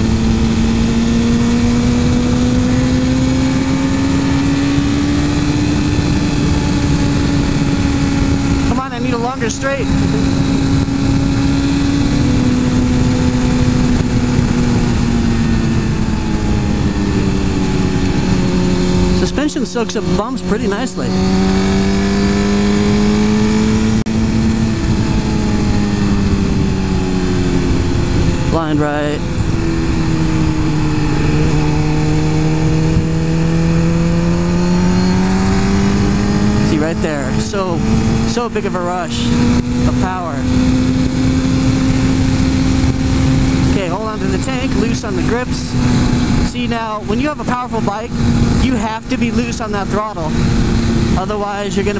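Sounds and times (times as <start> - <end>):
motorcycle engine running: 0.0 - 51.9
wind noise: 0.0 - 51.9.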